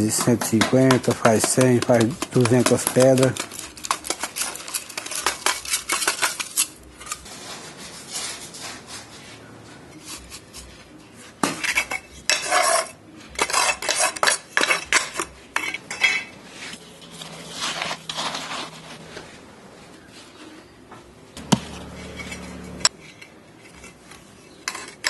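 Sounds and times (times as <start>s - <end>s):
trowel scraping cement mix: 0.0s - 19.3s, 21.4s - 25.0s.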